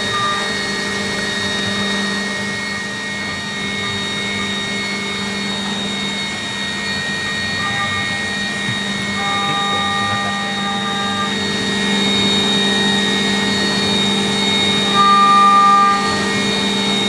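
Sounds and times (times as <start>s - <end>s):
milling machine spindle whine: 0.0s - 17.0s.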